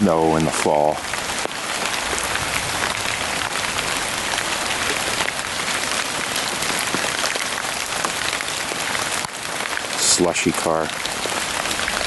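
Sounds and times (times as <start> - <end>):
rain and wet snow falling: 0.0 - 12.0.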